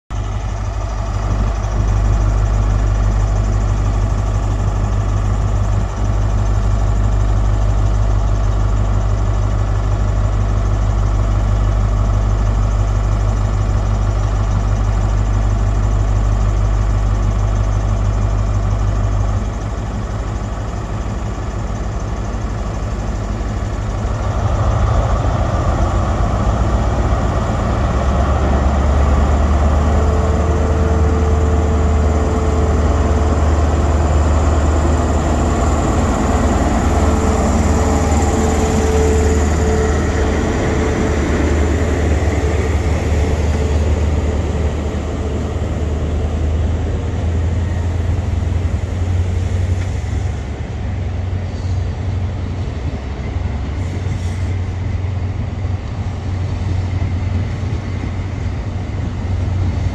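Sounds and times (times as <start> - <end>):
diesel engine idling: 0.1 - 59.9.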